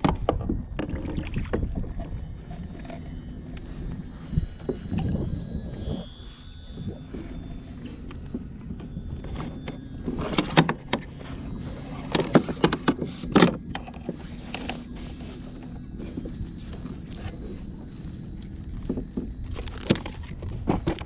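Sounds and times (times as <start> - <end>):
wind and water rumble: 0.0 - 21.0.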